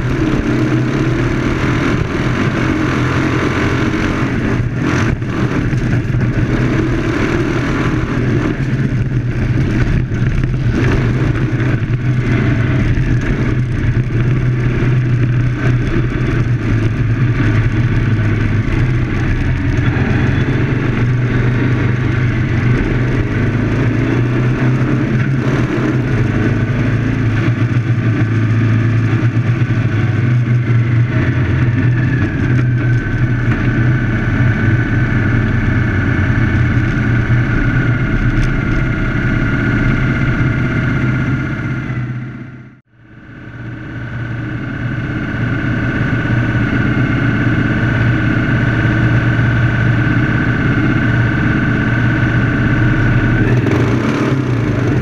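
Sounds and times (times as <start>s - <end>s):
race car engine revving: 0.0s - 42.9s, 44.7s - 55.0s.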